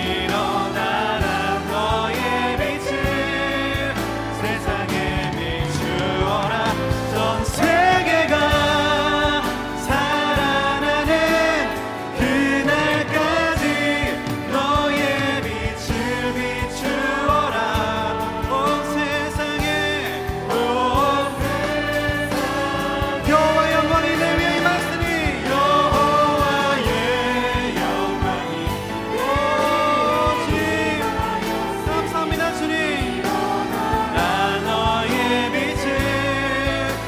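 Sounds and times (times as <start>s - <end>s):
group singing praise song: 0.0s - 37.0s.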